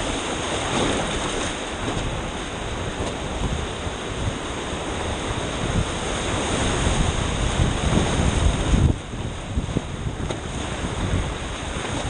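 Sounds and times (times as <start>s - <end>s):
river water rushing: 0.0s - 12.0s
wind noise on microphone: 0.0s - 12.0s.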